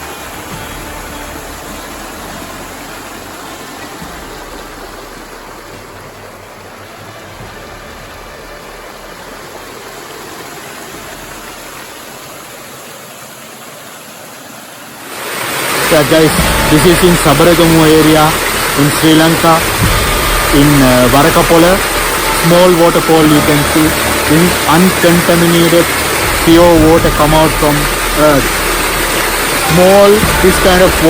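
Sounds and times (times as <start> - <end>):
small waterfall rushing: 0.0 - 31.0.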